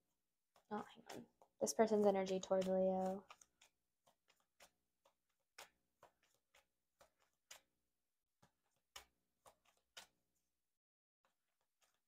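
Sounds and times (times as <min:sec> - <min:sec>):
cards being shuffled by hand: 0:00.9 - 0:07.8, 0:08.4 - 0:10.5, 0:11.3 - 0:12.0.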